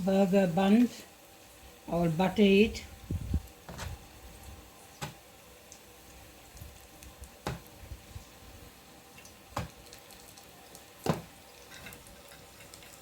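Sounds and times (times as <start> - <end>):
patties frying in a pan: 0.0 - 13.0.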